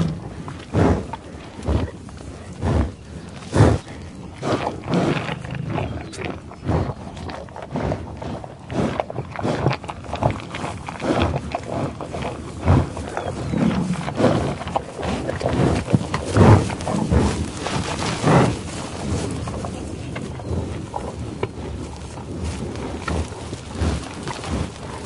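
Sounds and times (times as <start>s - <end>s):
buffalo breathing and sniffing: 0.0s - 25.0s
grass rustling and tearing: 0.0s - 25.0s.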